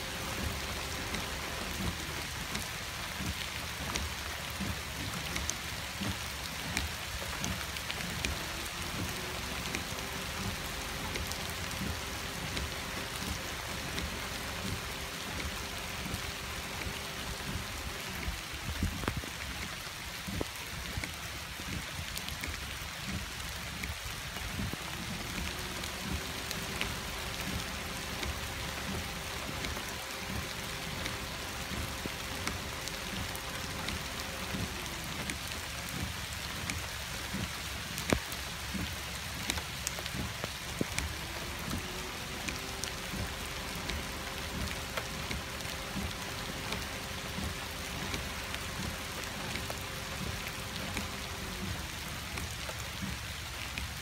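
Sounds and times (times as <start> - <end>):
raindrops tapping: 0.0 - 54.0
steady rain falling: 0.0 - 54.0.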